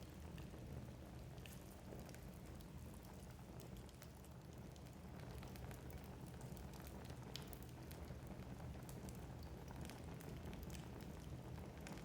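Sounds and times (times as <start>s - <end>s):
low rumble of flames: 0.0s - 12.0s
wood fire crackling and popping: 0.0s - 12.0s.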